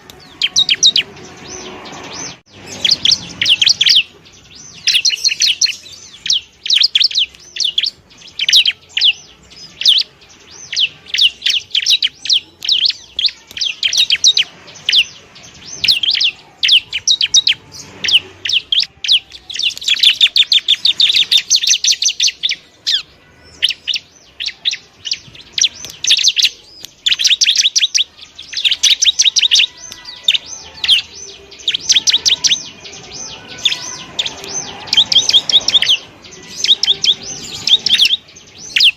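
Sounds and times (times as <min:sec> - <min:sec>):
bird singing high chirps and trills: 0:00.0 - 0:38.9.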